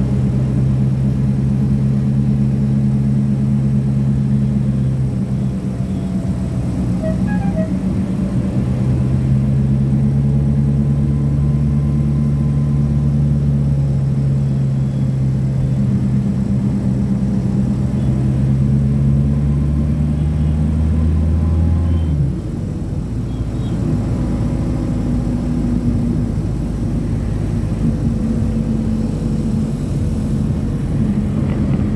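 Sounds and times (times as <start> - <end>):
vehicle engine and road drone: 0.0 - 31.9.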